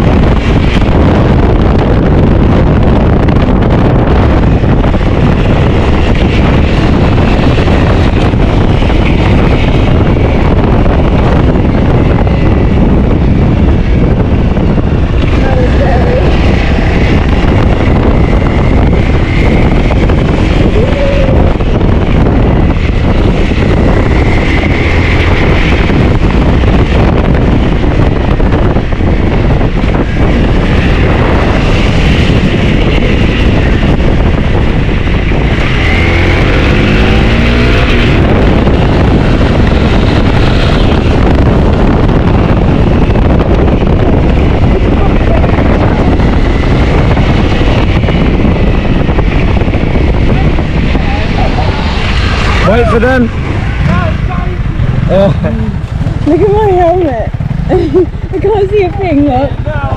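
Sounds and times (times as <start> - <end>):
motorbike engine: 0.0 - 59.9
road noise: 0.0 - 59.9
wind buffeting microphone: 0.0 - 59.9.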